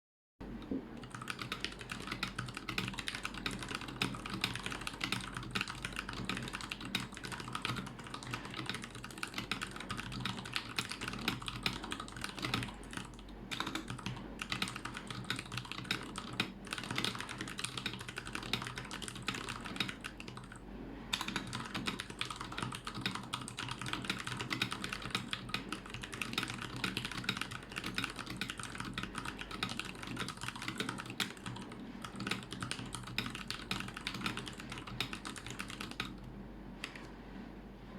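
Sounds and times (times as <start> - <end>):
mechanical keyboard typing: 1.0 - 20.6, 21.2 - 37.1.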